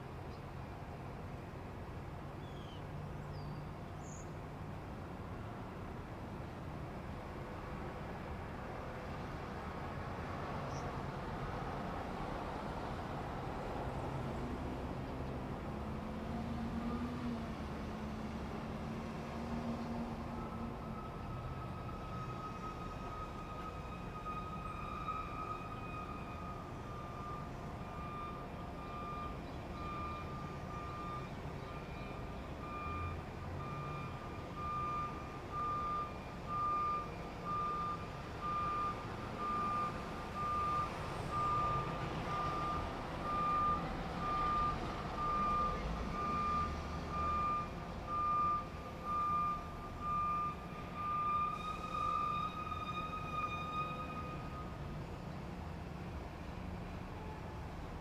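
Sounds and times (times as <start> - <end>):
truck reversing alarm beeping: 9.1 - 58.0.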